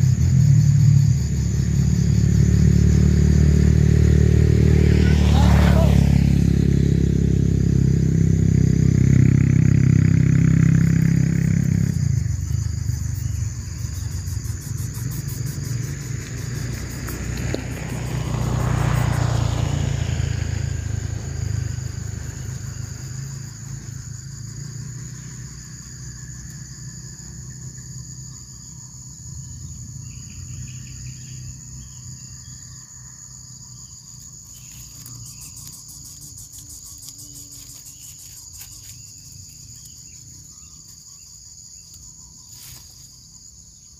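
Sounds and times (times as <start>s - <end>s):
high-pitched insect trill: 0.0s - 43.9s.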